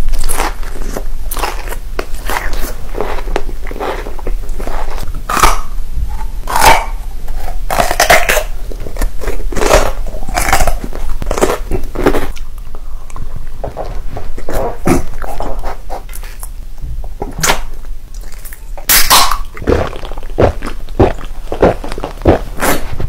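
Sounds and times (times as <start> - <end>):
crunchy biting and chewing: 0.0 - 16.6, 17.4 - 23.0.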